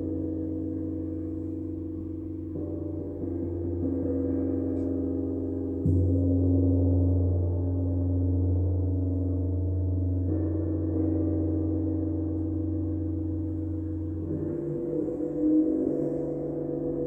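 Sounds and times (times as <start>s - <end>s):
gong ringing: 0.0s - 17.0s.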